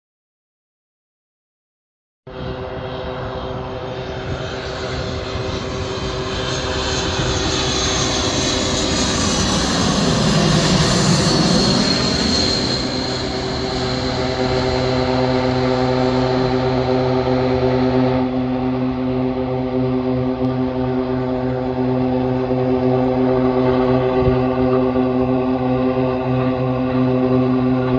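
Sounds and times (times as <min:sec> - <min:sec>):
jet airliner rumble: 0:02.3 - 0:27.9.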